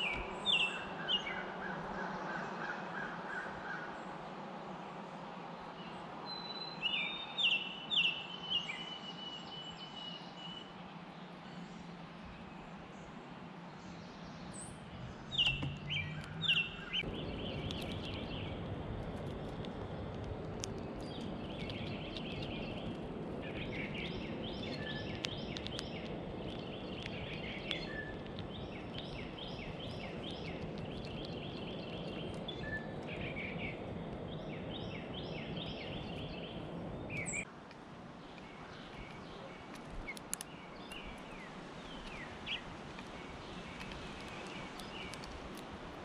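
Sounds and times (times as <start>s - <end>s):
birds chirping and twittering: 0.0s - 4.2s, 4.9s - 37.5s, 38.1s - 46.0s
steady outdoor noise: 0.0s - 46.0s.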